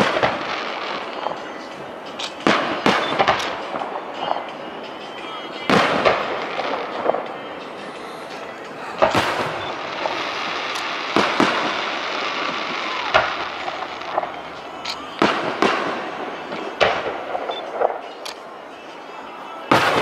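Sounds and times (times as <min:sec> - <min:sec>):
fireworks bursting with echo: 0:00.0 - 0:20.0.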